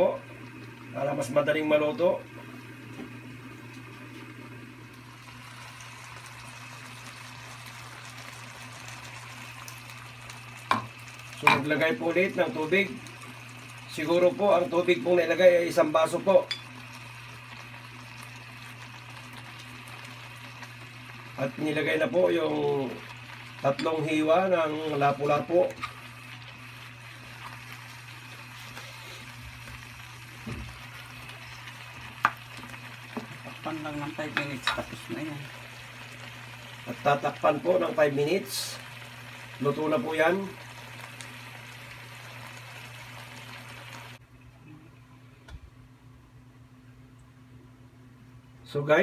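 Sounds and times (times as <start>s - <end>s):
vegetables simmering in a pan: 0.0s - 44.2s
low steady hum: 0.0s - 49.0s.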